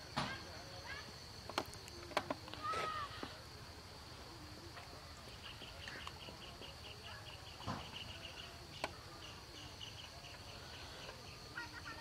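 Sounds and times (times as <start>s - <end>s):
high insect hum: 0.0s - 12.0s
insects chirping: 0.0s - 12.0s.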